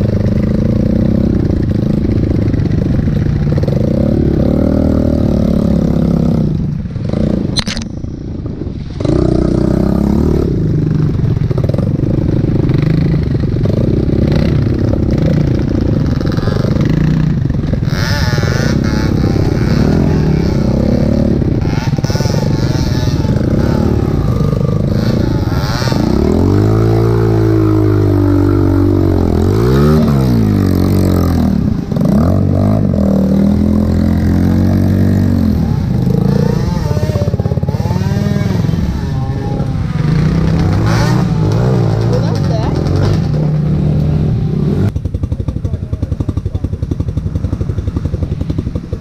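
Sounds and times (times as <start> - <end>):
dirt bike engine revving: 0.0 - 7.6, 8.3 - 49.0.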